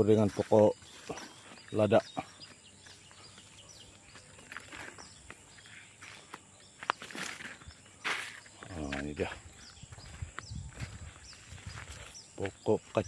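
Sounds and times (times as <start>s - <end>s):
faint bird chirps: 0.0s - 13.0s
footsteps on dry soil: 0.0s - 13.0s
scuffing rustle: 0.0s - 13.0s.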